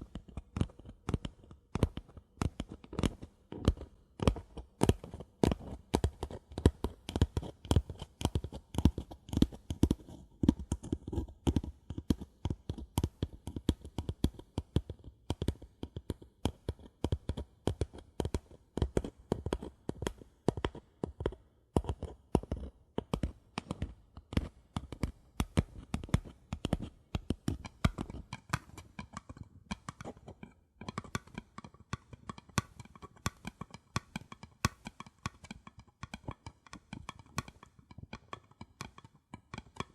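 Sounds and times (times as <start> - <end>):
fingers tapping on paper cups: 0.0 - 39.9.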